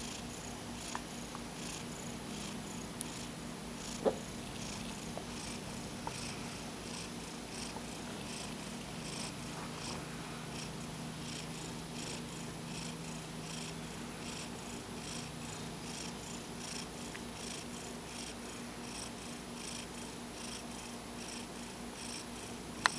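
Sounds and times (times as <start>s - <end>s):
cat snoring: 0.0s - 22.6s.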